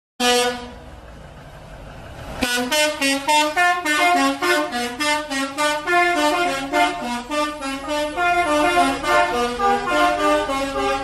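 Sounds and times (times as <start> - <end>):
musical bus air horn: 0.2 - 0.9, 2.4 - 11.0.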